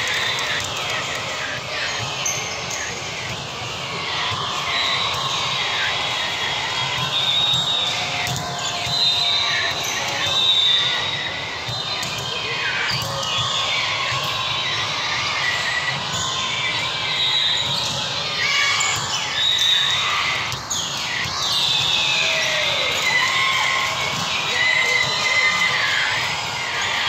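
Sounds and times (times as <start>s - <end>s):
hubbub of echoing hall: 0.0s - 27.0s
players calling out: 0.0s - 27.0s.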